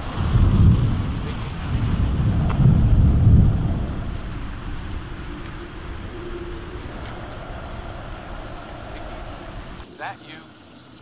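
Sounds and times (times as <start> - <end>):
thunder rumbling: 0.0 - 9.9
steady rain hiss: 0.0 - 11.0.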